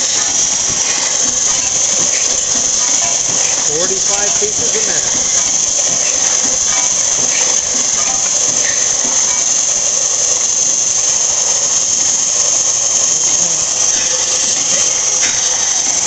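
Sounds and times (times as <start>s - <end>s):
high-pitched hiss: 0.0s - 16.0s
machine mechanical clatter: 0.0s - 16.0s.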